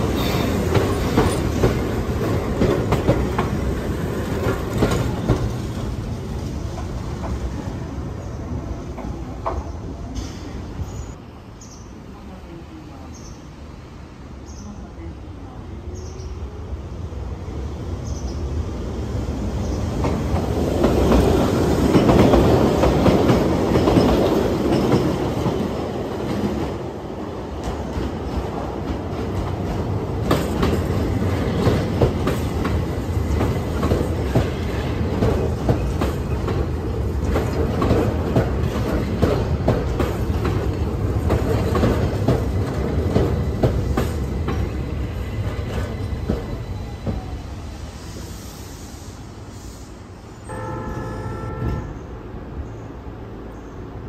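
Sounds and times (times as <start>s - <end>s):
train rolling past: 0.0s - 54.0s.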